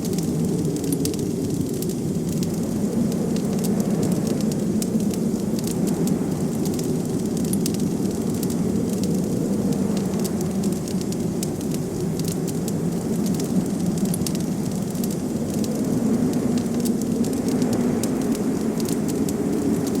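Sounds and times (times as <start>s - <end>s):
blizzard wind rushing: 0.0s - 20.0s
wood fire crackling and popping: 0.0s - 20.0s.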